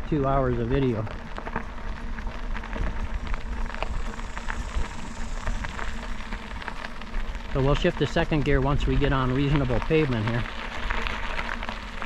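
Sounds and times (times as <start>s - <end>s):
bike tyres rolling over gravel: 0.0s - 12.0s.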